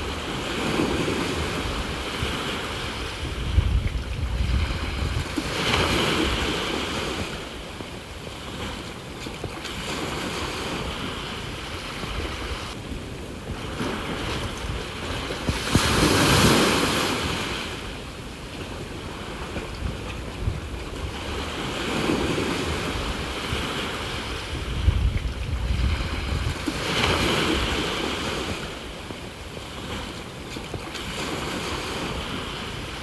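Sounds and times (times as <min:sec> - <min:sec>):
sea waves washing onto shore: 0:00.0 - 0:33.0
wind buffeting microphone: 0:00.0 - 0:33.0.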